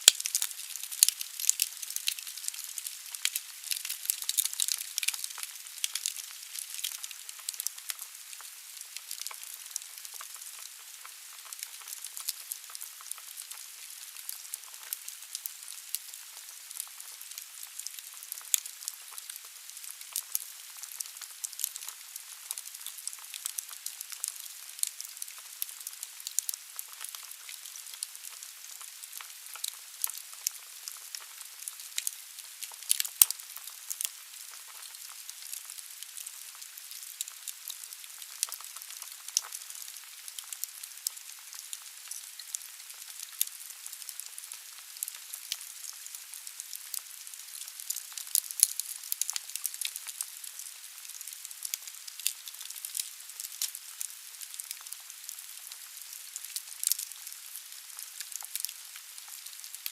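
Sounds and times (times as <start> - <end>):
logs crackling and popping: 0.0 - 59.9.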